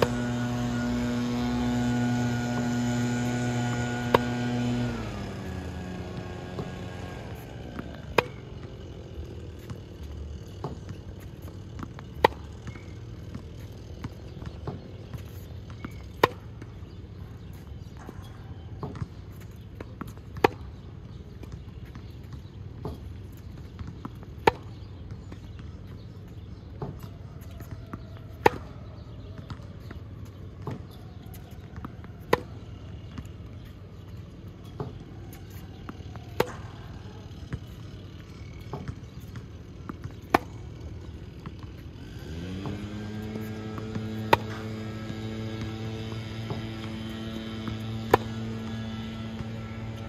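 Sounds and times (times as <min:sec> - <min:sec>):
low hum: 0:00.0 - 0:21.6, 0:30.6 - 0:50.0.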